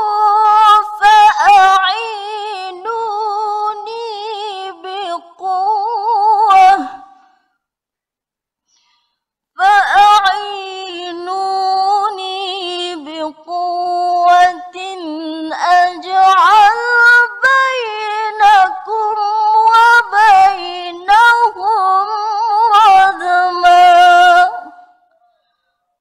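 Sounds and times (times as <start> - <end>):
woman chanting: 0.0 - 7.3, 9.6 - 25.0.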